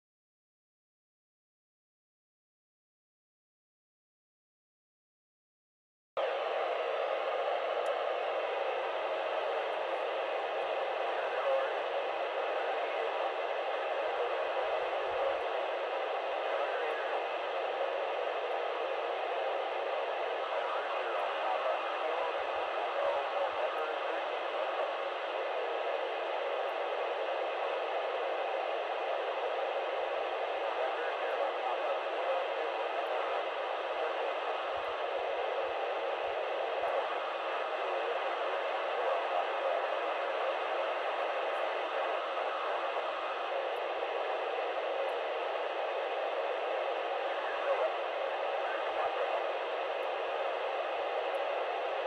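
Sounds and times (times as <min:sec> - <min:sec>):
radio receiver hiss: 0:06.2 - 0:52.0.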